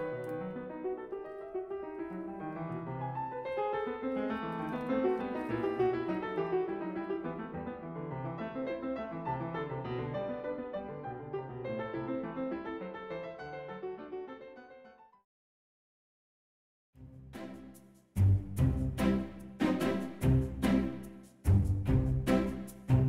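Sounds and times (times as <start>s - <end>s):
gentle piano music: 0.0s - 15.2s, 17.3s - 23.0s.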